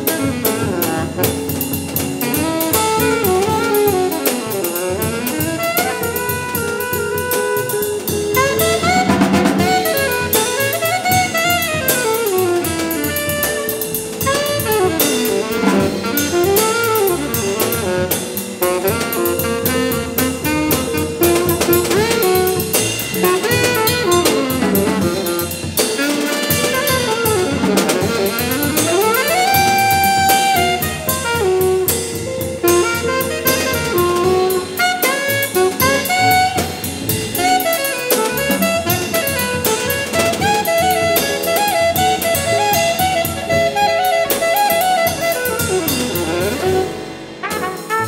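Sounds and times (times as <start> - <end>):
alto saxophone: 0.0 - 48.0
jazz combo playing: 0.0 - 48.0
trumpet: 0.0 - 48.0.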